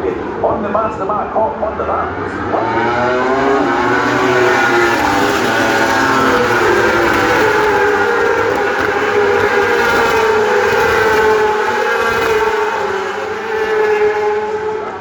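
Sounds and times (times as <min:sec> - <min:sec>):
race motorcycle engines revving high: 0:01.6 - 0:15.0.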